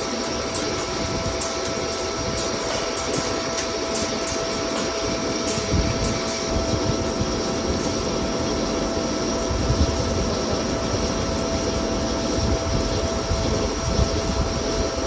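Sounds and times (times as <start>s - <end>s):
lathe whining and rumbling: 0.0s - 15.0s.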